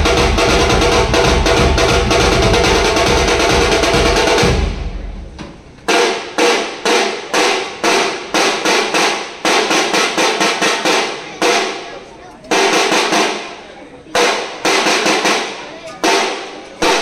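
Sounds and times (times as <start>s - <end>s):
sharp ringing drum strikes: 0.0s - 13.6s, 14.2s - 17.0s
drum-led percussion music: 0.0s - 17.0s.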